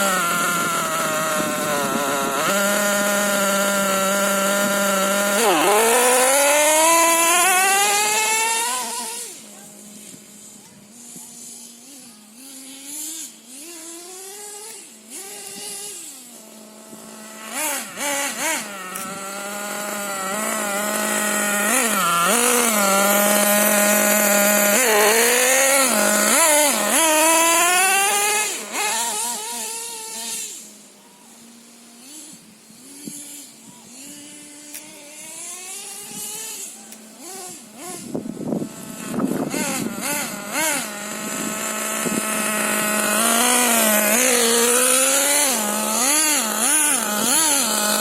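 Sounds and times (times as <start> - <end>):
model engine revving: 0.0 - 30.8, 31.4 - 48.0.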